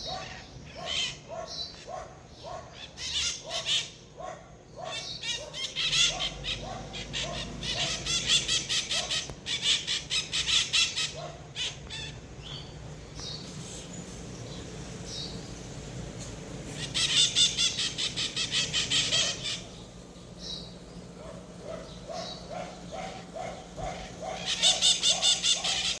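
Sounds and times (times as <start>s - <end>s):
birds chattering: 0.0s - 26.0s.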